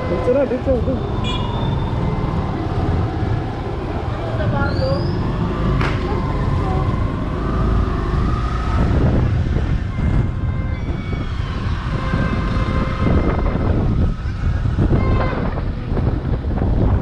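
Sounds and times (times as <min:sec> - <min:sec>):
wind buffeting microphone: 0:01.8 - 0:17.0.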